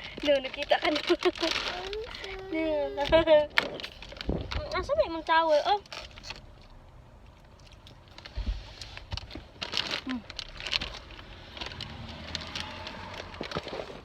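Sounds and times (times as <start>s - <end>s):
rustling and handling noise: 0.0s - 14.0s.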